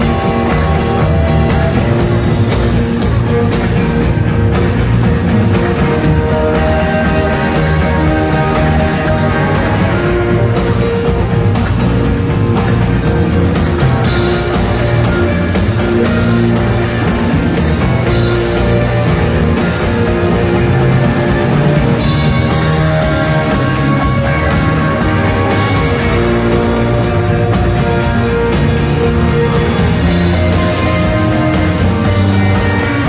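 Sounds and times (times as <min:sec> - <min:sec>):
live rock band playing: 0:00.0 - 0:33.0.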